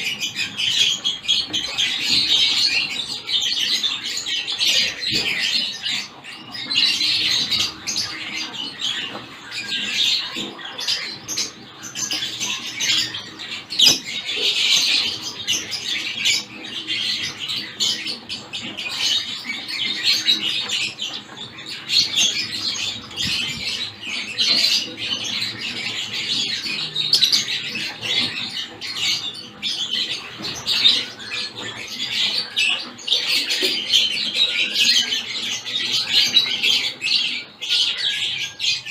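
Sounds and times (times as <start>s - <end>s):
finches chirping and chattering: 0.0s - 38.9s.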